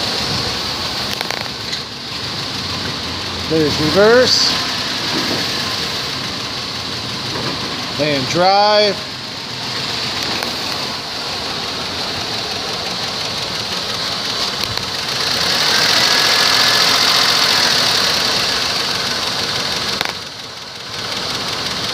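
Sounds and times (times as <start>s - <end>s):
engine running: 0.0s - 21.9s.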